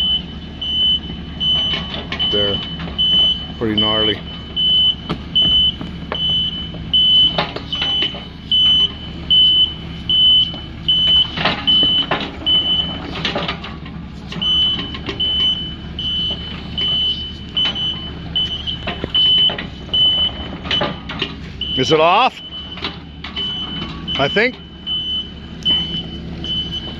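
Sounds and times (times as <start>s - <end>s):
diesel engine running: 0.0s - 26.9s
excavator travel alarm beeping: 0.0s - 26.9s.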